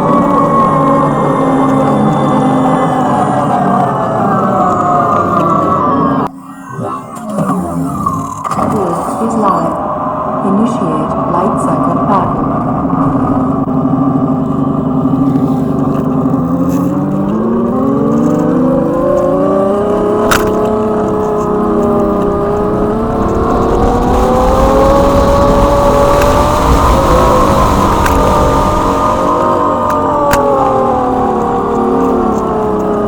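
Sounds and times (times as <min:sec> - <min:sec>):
synthetic engine sound rising: 0:00.0 - 0:33.0.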